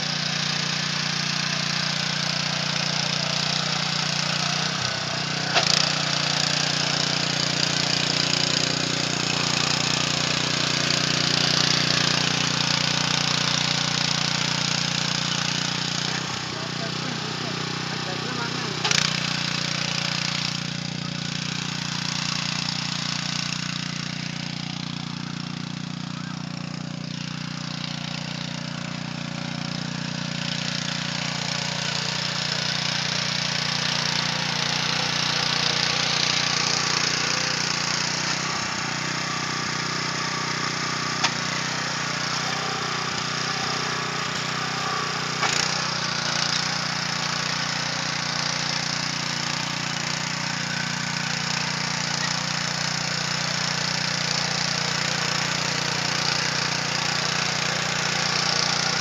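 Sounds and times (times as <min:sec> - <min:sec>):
tiller engine running: 0:00.0 - 0:59.0
tines churning soil: 0:00.0 - 0:59.0.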